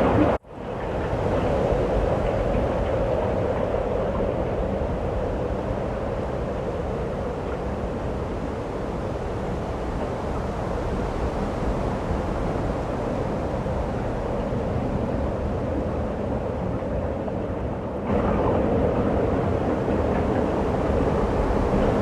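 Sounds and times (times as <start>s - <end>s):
blizzard wind rushing: 0.0s - 22.0s.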